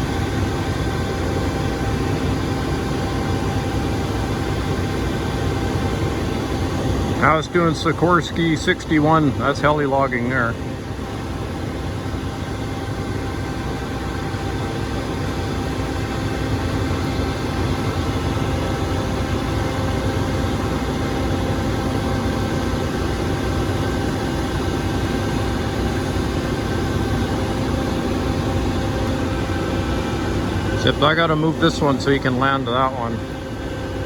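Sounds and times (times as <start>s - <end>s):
heavy engine running under load: 0.0s - 34.0s.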